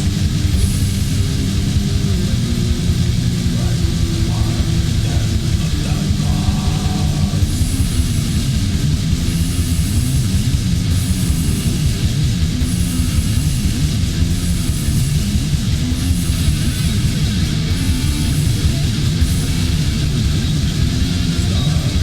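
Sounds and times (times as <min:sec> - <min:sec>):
distorted electric guitars: 0:00.0 - 0:22.0
drums: 0:00.0 - 0:22.0.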